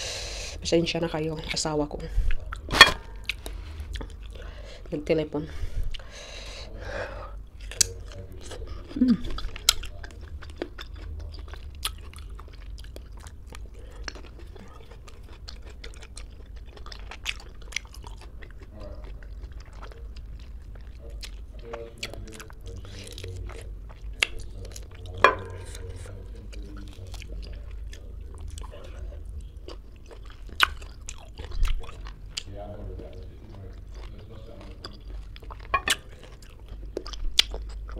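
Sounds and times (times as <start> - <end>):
person chewing fruit: 0.0 - 4.9, 5.6 - 37.9
low steady hum: 0.0 - 37.9.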